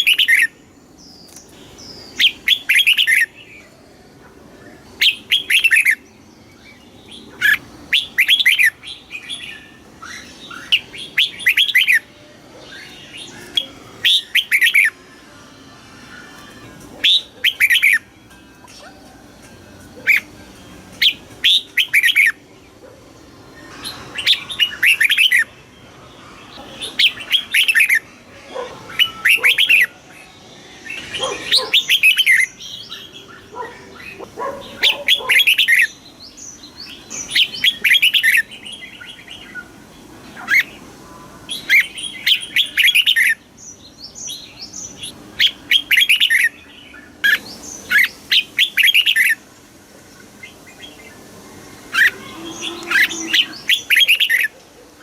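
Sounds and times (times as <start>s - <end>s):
bird singing chirpy phrases: 4.5s - 18.9s, 23.6s - 49.4s, 50.2s - 54.6s.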